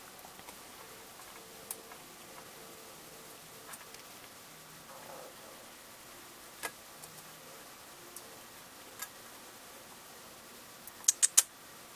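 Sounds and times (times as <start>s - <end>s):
faint hiss: 0.0s - 11.9s.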